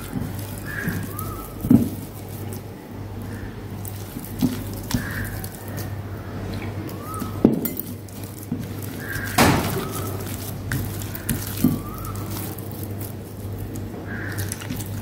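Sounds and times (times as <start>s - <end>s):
hand squeezing thick batter: 0.0s - 15.0s.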